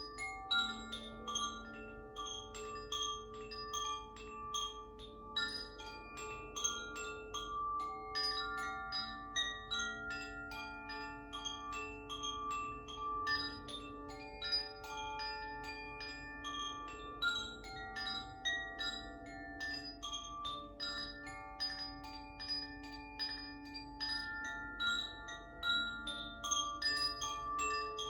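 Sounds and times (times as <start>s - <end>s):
tuned chimes ringing: 0.0s - 28.0s.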